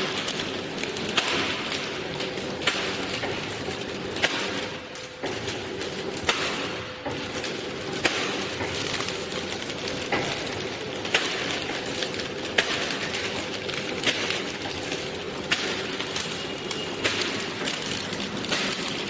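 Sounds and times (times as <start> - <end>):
packing machine motor hum: 0.0 - 19.0.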